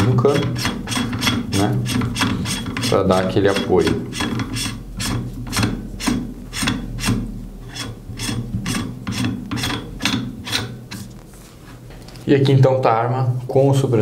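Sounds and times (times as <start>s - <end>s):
threads rasping: 0.0s - 11.2s.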